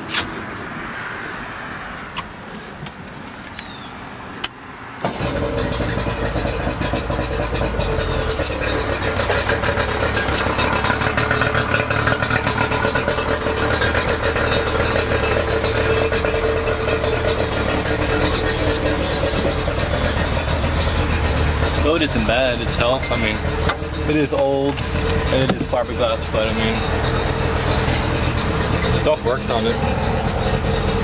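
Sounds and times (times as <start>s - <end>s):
outboard motor starting and idling: 4.8s - 31.0s.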